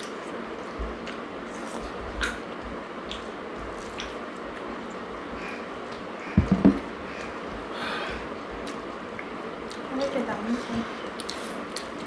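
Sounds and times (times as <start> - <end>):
chewing and squishing food: 0.0 - 6.2, 8.3 - 12.0.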